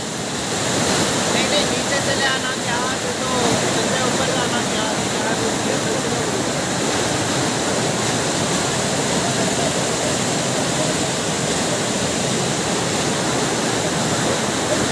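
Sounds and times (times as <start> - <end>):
floodwater rushing: 0.0 - 14.9
heavy rain: 0.0 - 14.9.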